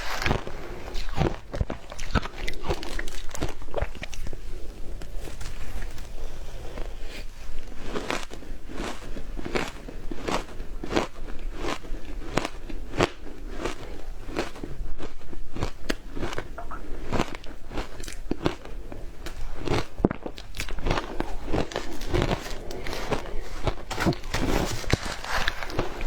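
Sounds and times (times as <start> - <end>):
frozen ice being bitten and chewed: 0.0 - 26.0.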